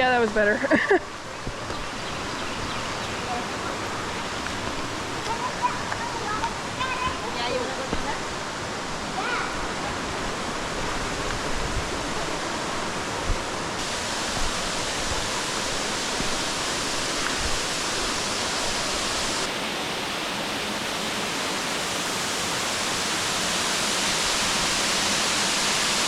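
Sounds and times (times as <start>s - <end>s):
waterfall rushing: 1.1s - 26.0s.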